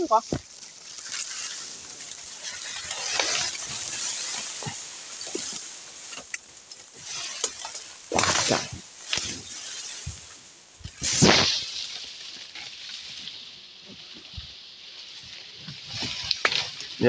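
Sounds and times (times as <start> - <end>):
dry reeds rustling and crackling: 0.0 - 17.0
swishing sweeps through brush: 0.0 - 17.0.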